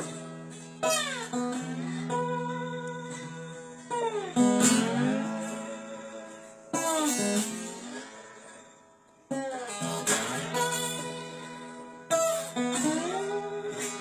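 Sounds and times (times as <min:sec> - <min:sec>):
slide guitar: 0:00.0 - 0:14.0.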